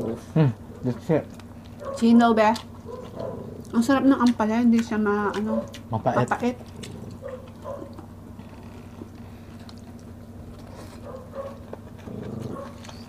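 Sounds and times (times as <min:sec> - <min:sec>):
quiet chewing: 0:00.0 - 0:13.0
steady low hum: 0:00.0 - 0:13.0.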